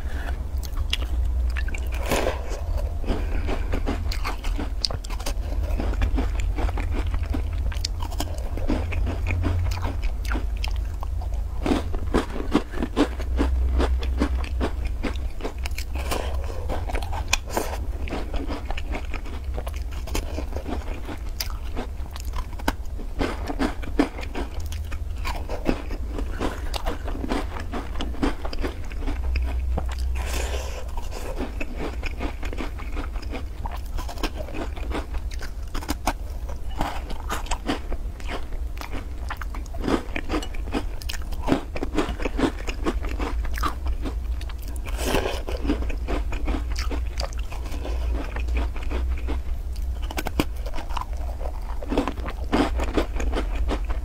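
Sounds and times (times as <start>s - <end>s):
biting and chewing crunchy cookies: 0.0s - 54.0s
steady low hum: 0.0s - 54.0s.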